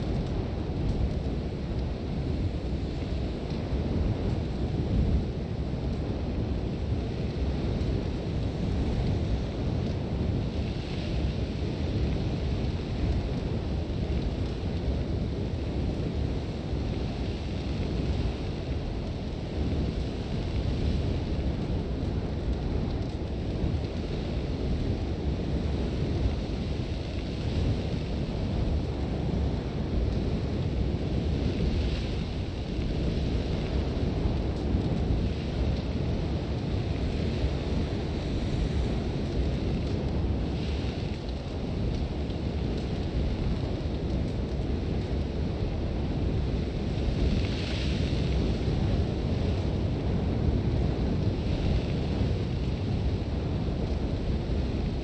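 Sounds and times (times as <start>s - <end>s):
strong wind with low rumble: 0.0s - 55.0s.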